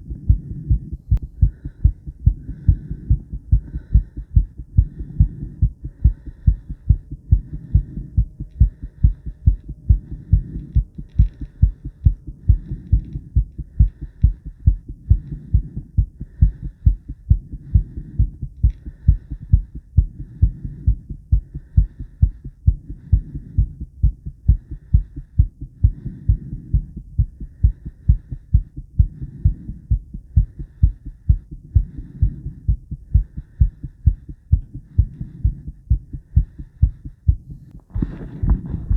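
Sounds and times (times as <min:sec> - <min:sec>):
heartbeat: 0:00.0 - 0:38.9.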